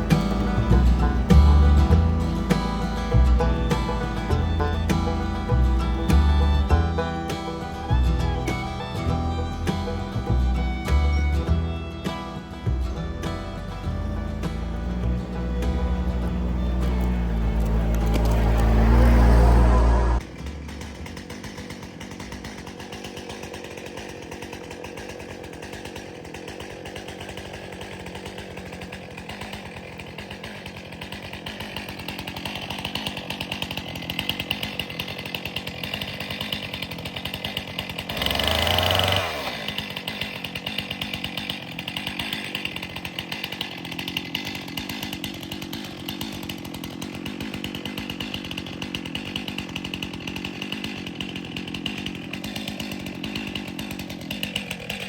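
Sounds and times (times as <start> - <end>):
chainsaw running: 0.0 - 55.0.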